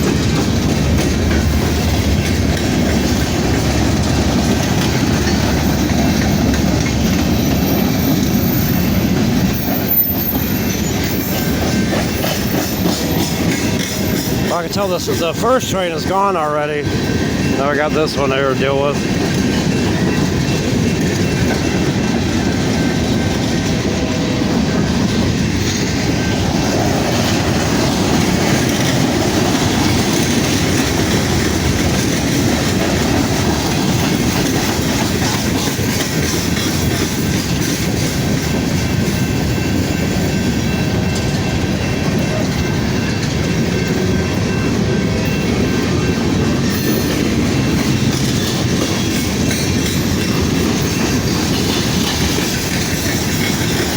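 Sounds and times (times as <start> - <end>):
freight train rumbling past: 0.0 - 53.9
wheels clicking over rail joints: 0.0 - 53.9.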